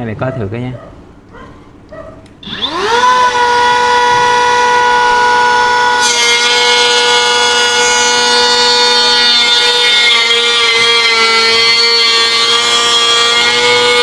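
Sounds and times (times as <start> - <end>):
electric planer motor whine: 2.4 - 14.0
planer blades cutting wood: 2.4 - 14.0.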